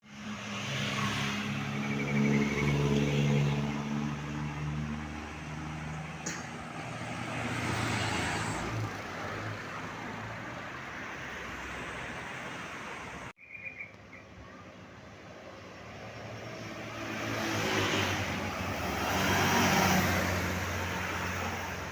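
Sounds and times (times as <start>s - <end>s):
road traffic: 0.0s - 21.9s
heavy vehicle engine passing: 0.4s - 13.3s, 15.3s - 21.9s.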